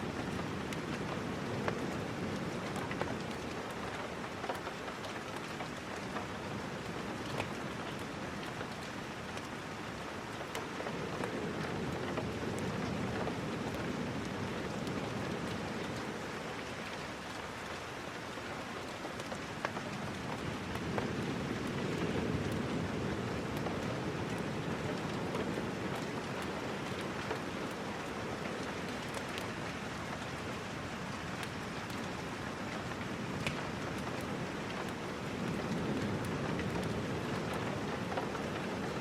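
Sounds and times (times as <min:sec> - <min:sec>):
light ticks of raindrops: 0:00.0 - 0:39.0
steady rain hiss: 0:00.0 - 0:39.0.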